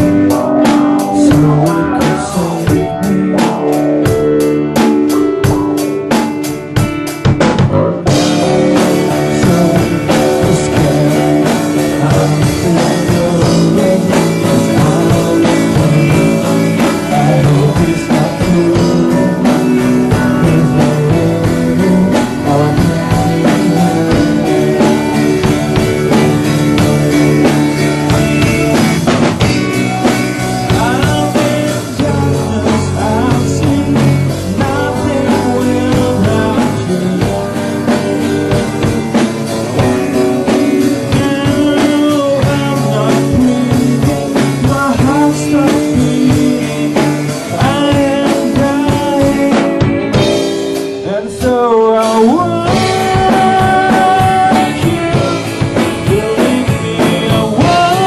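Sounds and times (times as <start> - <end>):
person singing: 0.0 - 6.8, 7.4 - 58.0
drum kit: 0.0 - 58.0
electric guitar: 0.0 - 58.0.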